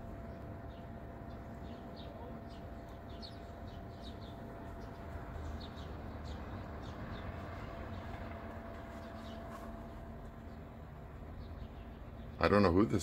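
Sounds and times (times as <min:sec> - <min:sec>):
distant traffic rumble: 0:00.0 - 0:13.0
small birds chirping: 0:00.0 - 0:13.0.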